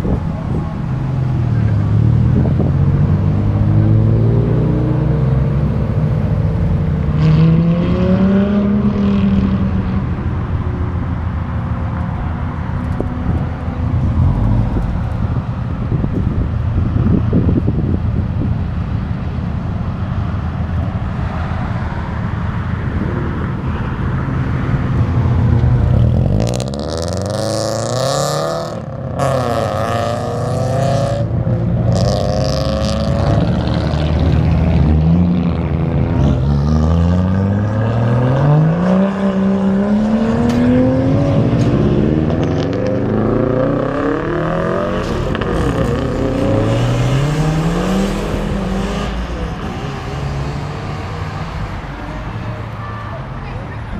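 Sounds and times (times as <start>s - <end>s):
cars accelerating away: 0.0s - 18.0s, 20.6s - 52.9s
car engines rumbling: 0.0s - 53.9s.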